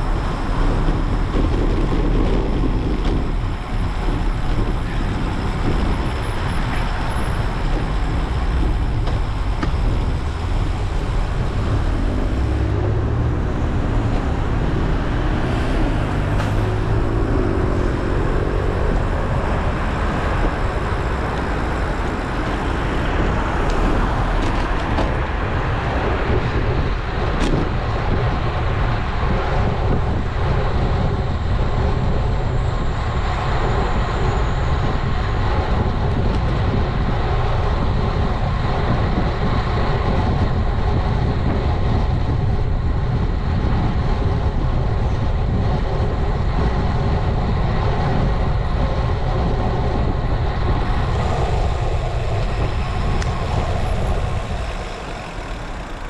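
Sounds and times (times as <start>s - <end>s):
motor traffic: 0.0s - 56.0s
road noise: 0.0s - 56.0s
wind rush: 0.0s - 56.0s.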